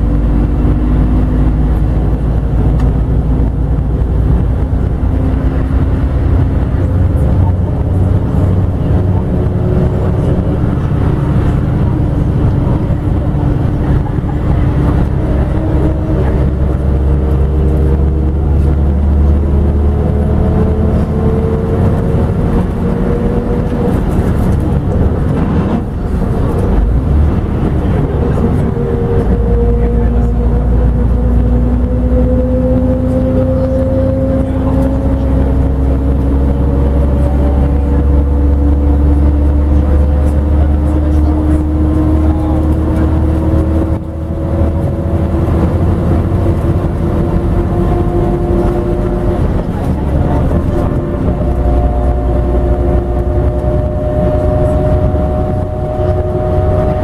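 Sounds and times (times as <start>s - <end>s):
coach diesel engine pulling: 0.0s - 57.0s
road rumble: 0.0s - 57.0s.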